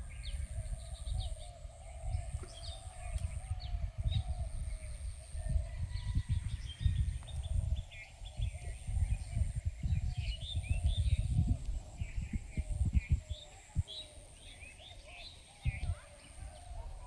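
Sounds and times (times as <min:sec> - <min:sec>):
small birds chirping: 0:00.0 - 0:17.0
wind rumble on microphone: 0:00.0 - 0:17.0.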